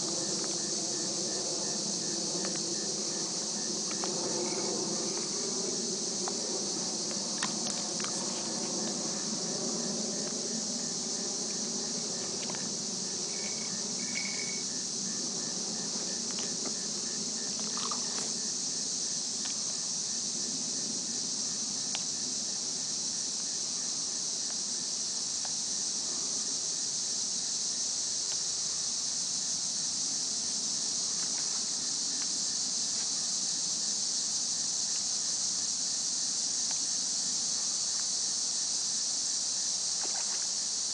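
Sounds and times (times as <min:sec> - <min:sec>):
crickets and insects chorus: 0:00.0 - 0:40.9.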